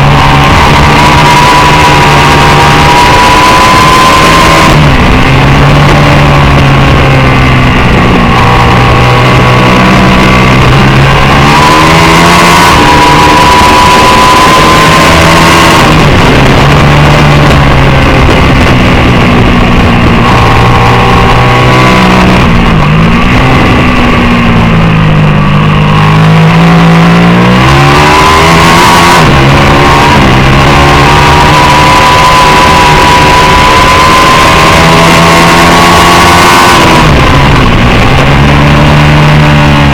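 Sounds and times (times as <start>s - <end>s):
racing motorcycle engine at high revs: 0.0s - 39.9s
steady rushing noise: 0.0s - 39.9s.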